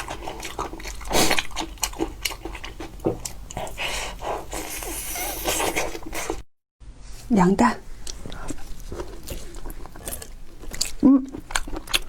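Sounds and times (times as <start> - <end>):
chewing and lip-smacking: 0.0 - 6.4, 8.0 - 12.0.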